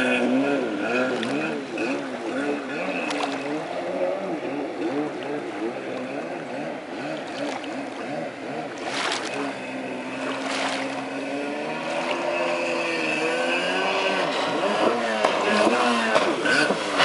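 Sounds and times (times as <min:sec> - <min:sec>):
jet ski engine running hard: 0:00.0 - 0:17.0.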